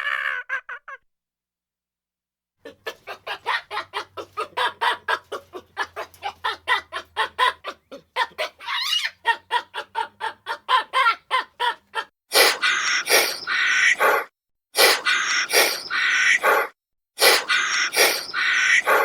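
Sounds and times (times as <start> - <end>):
chicken squawk: 2.7 - 19.0.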